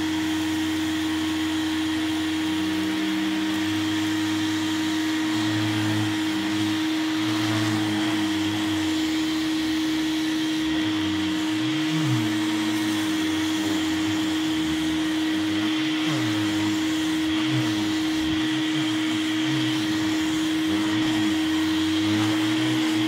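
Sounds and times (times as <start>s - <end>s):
vacuum cleaner motor whine: 0.0s - 23.0s
vacuum sucking up crumbs: 0.0s - 23.0s.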